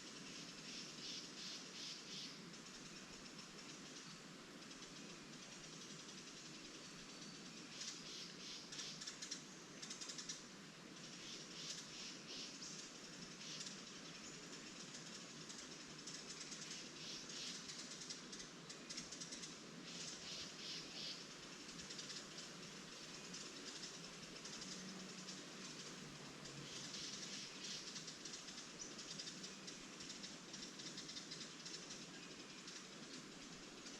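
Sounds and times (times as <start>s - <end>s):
leaves rustling in wind: 0.0s - 33.9s
songbirds trilling: 0.0s - 33.9s.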